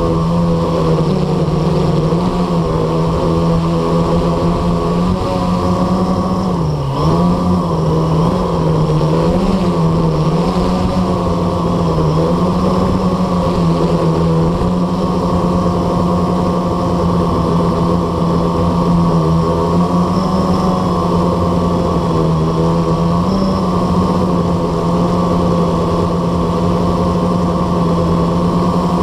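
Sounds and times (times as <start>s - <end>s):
quadcopter propellers humming: 0.0s - 29.0s.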